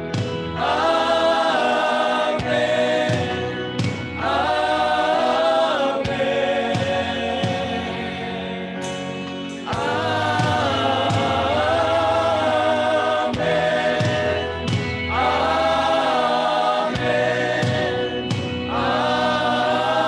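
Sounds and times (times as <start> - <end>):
sustained instrumental chords: 0.0 - 20.0
worship singers singing: 0.0 - 20.0.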